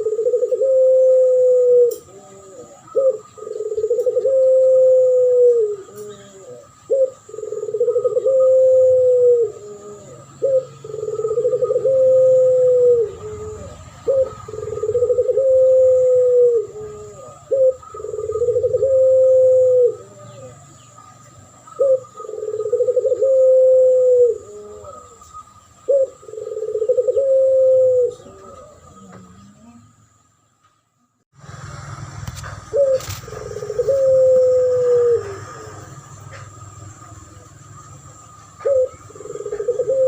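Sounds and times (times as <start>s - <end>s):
dove cooing: 0.0s - 30.0s, 32.4s - 40.0s.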